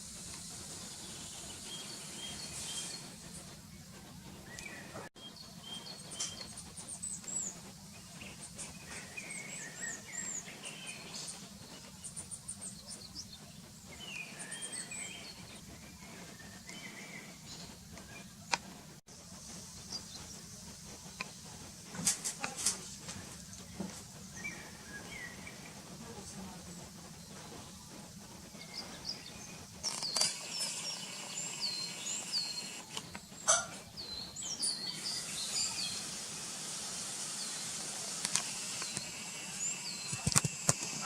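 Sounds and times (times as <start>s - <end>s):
bird chirping: 0.4s - 18.4s, 23.4s - 41.0s.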